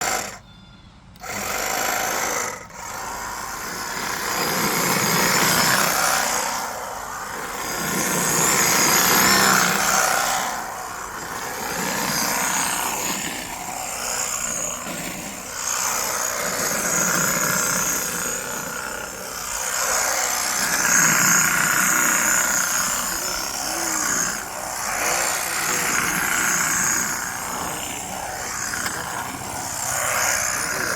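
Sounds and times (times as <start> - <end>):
brush cutter motor whine: 0.0 - 30.9.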